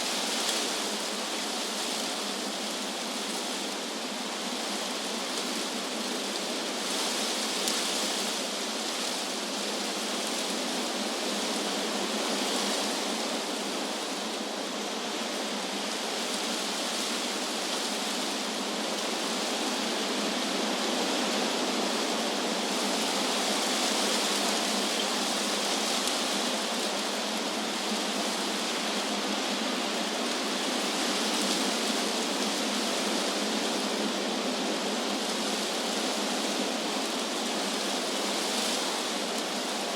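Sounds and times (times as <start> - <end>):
wind rushing through leaves: 0.0 - 39.9.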